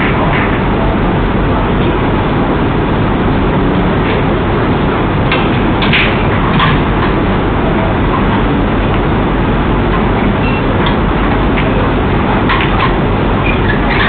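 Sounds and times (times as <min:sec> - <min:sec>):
room noise hiss and rumble: 0:00.0 - 0:14.0.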